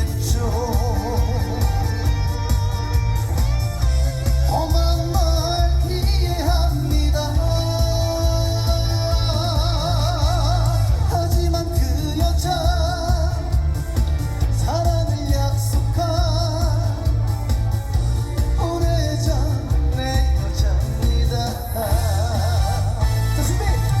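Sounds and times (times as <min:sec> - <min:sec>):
man singing with vibrato: 0:00.0 - 0:03.3, 0:04.0 - 0:24.0
backing music with heavy bass: 0:00.0 - 0:24.0.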